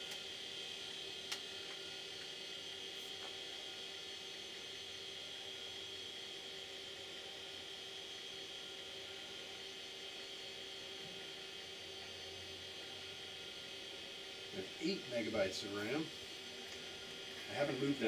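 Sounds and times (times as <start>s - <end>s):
computer fan and hard drive whir: 0.0s - 18.0s.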